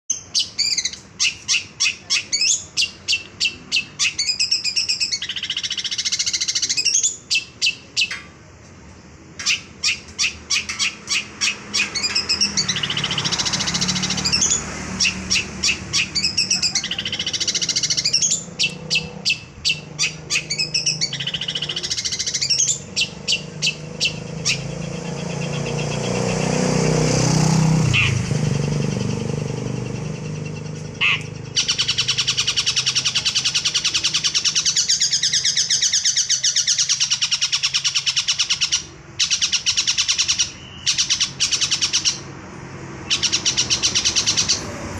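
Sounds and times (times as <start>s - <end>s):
shrike singing: 0.1s - 8.6s, 9.3s - 42.4s, 43.0s - 44.9s.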